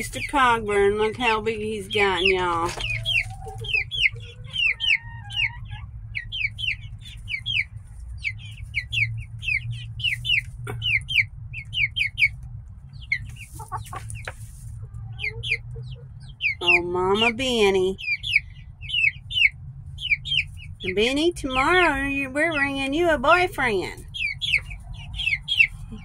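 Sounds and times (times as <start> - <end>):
young chickens peeping: 0.0 - 26.0.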